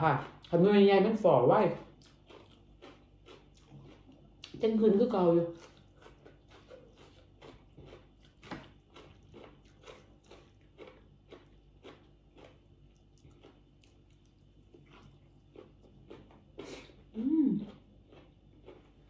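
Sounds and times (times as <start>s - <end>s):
close-up chewing: 1.8s - 4.6s, 5.2s - 19.0s.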